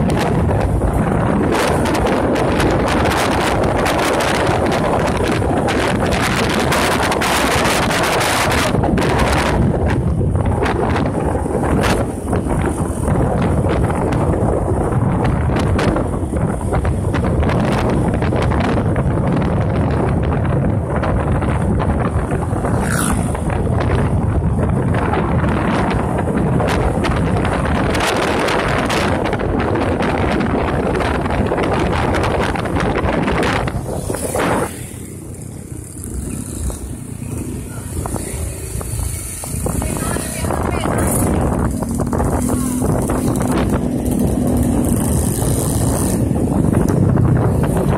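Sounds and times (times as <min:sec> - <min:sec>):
motorcycle and tyres rumbling: 0:00.0 - 0:47.9
wind buffeting microphone: 0:00.0 - 0:47.9.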